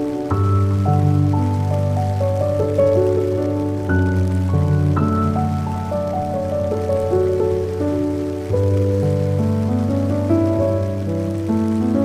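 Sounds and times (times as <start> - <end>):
rain falling on leaves: 0.0 - 12.0
soft slow melodic music: 0.0 - 12.0.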